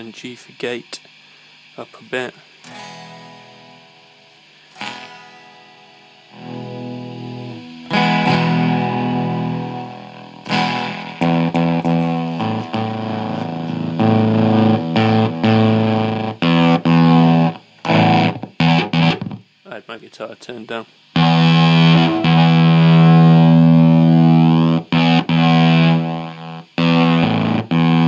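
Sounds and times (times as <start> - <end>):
distorted electric guitar: 2.6 - 19.6, 21.1 - 28.0.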